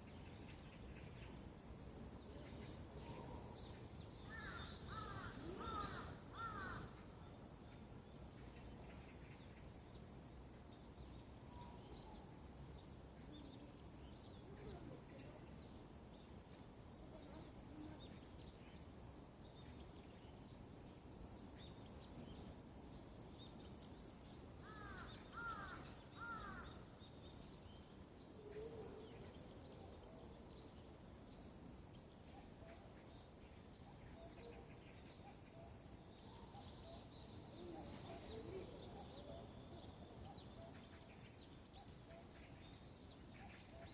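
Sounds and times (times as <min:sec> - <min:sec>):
faint birdsong and bird calls: 0:00.0 - 0:43.9.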